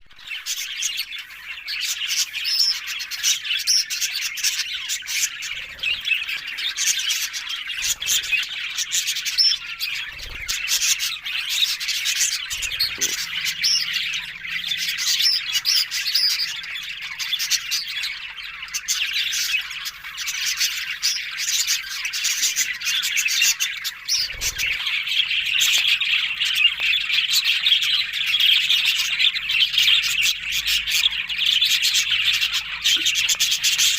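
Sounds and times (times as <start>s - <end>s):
budgerigars chattering and warbling: 0.1s - 33.9s.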